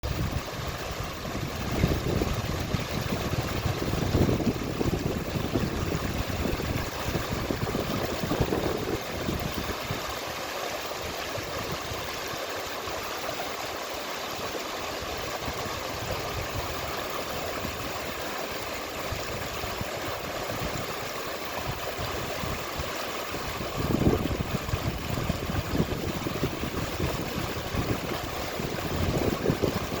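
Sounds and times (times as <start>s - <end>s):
low rumbling of water: 0.0s - 30.0s.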